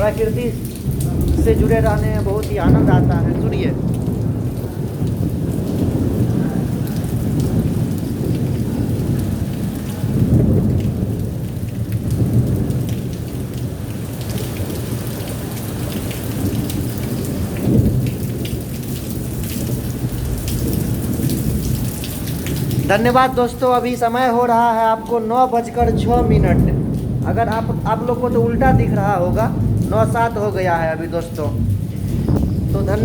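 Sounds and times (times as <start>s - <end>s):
heavy rain: 0.0s - 33.0s
low rolling thunder: 0.0s - 33.0s.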